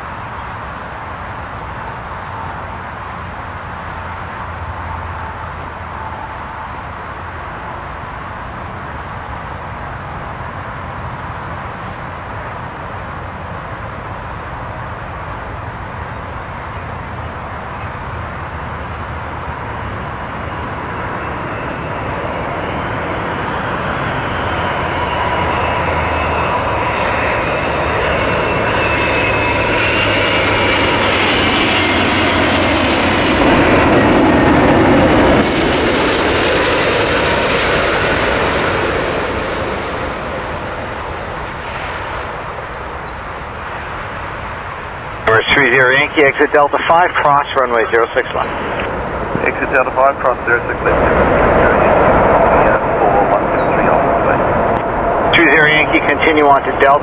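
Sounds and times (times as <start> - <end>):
high engine whine: 0.0 - 57.0
jet engine noise: 0.0 - 57.0.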